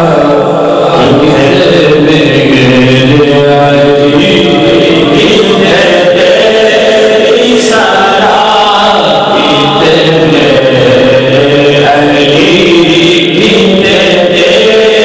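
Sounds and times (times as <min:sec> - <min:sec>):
man chanting devotional verse: 0:00.0 - 0:15.0.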